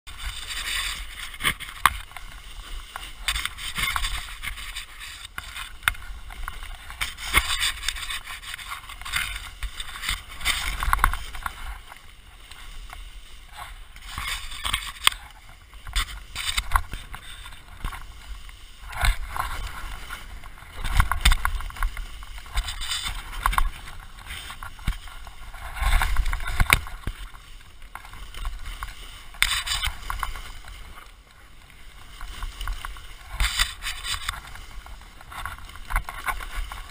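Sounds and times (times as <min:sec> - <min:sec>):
skis scraping over snow: 0:00.1 - 0:36.9
wind rumbling on microphone: 0:00.1 - 0:36.9.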